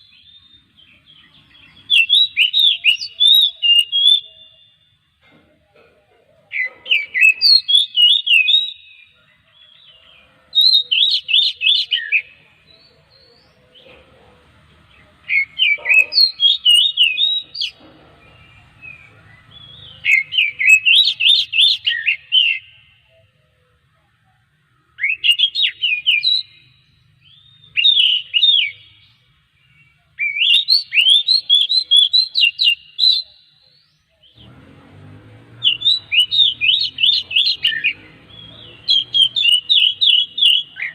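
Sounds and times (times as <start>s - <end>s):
bird singing: 0.0s - 5.5s, 6.4s - 40.9s.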